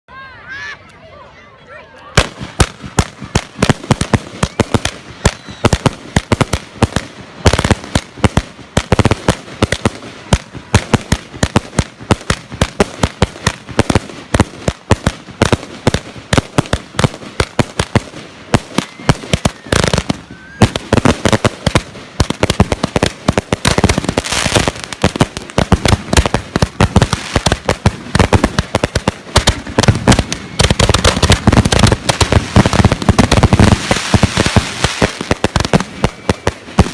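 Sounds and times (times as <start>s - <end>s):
fireworks cracking and banging: 2.1s - 36.9s.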